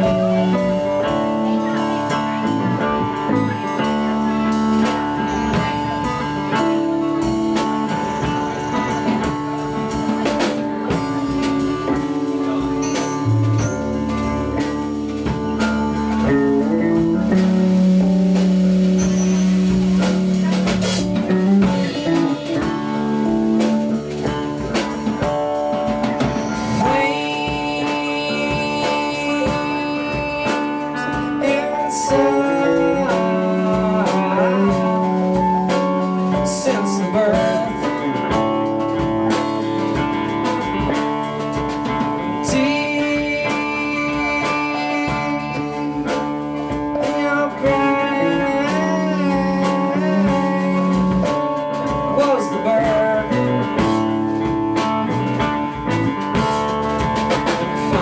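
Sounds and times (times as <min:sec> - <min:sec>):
drum kit: 0:00.0 - 0:58.0
guitar: 0:00.0 - 0:58.0
live band playing blues: 0:00.0 - 0:58.0.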